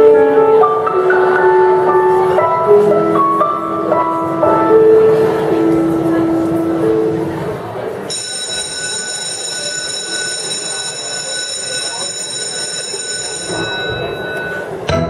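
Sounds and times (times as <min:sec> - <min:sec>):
murmur of audience: 0:00.0 - 0:15.0.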